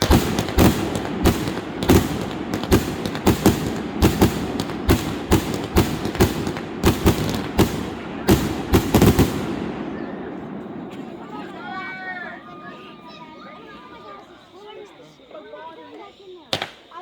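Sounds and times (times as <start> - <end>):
fireworks bangs: 0.0 - 17.0
fireworks crackle: 0.0 - 17.0.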